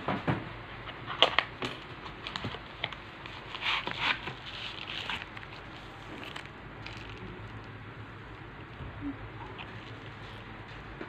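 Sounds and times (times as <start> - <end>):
plastic rustling: 1.1 - 8.8, 9.4 - 11.0.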